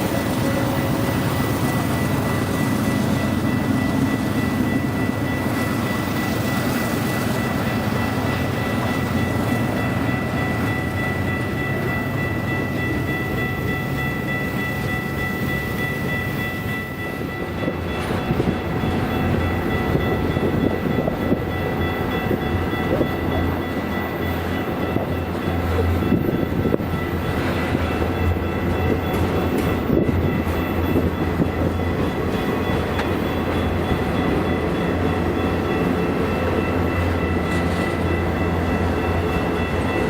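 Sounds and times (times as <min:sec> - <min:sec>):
freight train rumble: 0:00.0 - 0:40.0.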